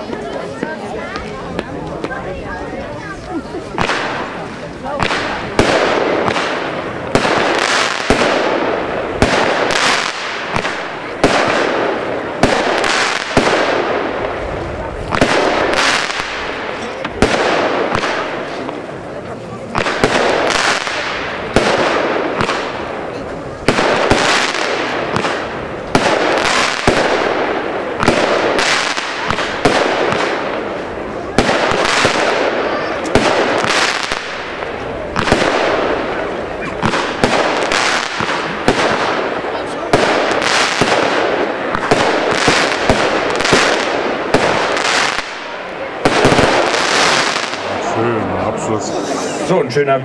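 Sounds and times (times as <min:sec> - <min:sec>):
hissing crackling firework stars: 0:00.0 - 0:48.0
firework bangs: 0:00.0 - 0:48.4.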